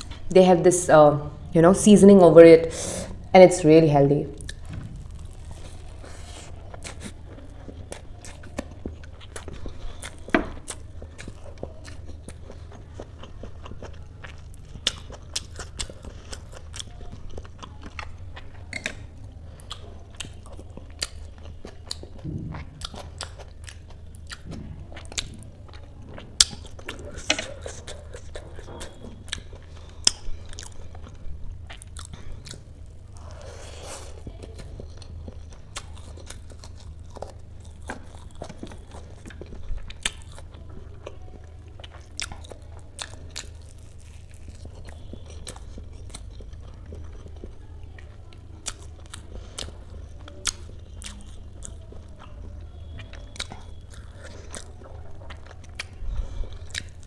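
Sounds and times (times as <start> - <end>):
steady low hum: 0.0 - 57.0
chewing and lip smacks: 4.4 - 57.0.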